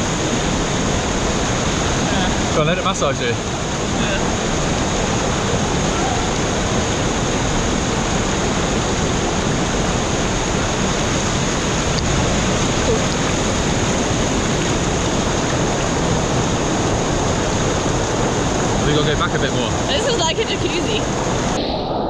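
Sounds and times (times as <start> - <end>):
waterfall rushing: 0.0 - 21.7.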